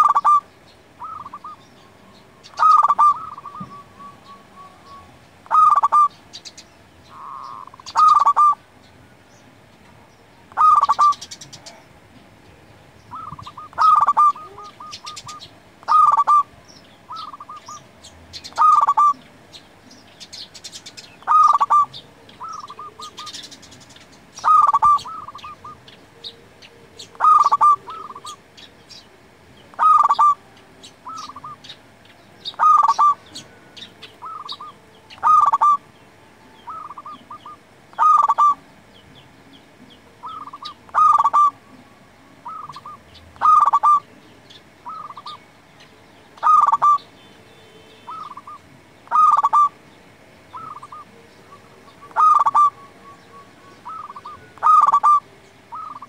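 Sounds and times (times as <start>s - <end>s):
dove cooing: 0.0s - 8.8s, 10.4s - 35.9s, 36.6s - 38.7s, 39.5s - 45.5s, 46.3s - 47.1s, 48.0s - 49.8s, 50.4s - 56.0s
small birds chirping: 0.0s - 56.0s.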